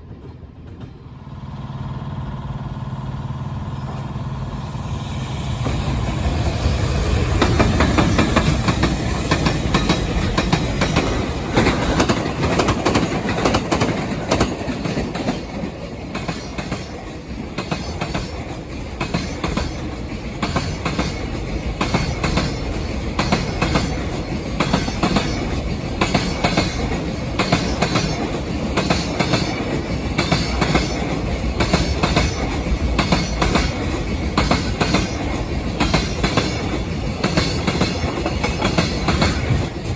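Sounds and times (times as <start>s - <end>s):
continuous train rumble: 0.0s - 39.9s
train wheels clacking over rail joints: 5.6s - 39.9s.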